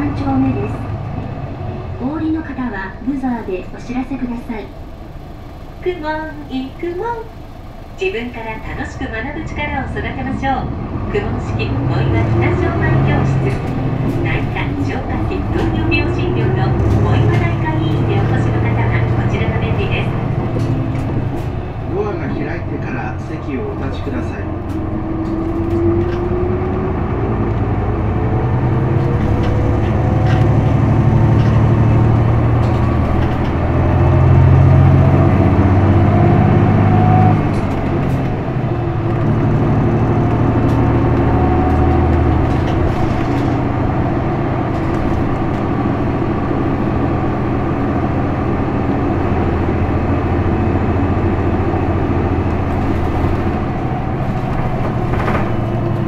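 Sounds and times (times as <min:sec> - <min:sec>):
bus diesel engine from inside: 0:00.0 - 0:56.0
thin drivetrain whine: 0:00.0 - 0:56.0.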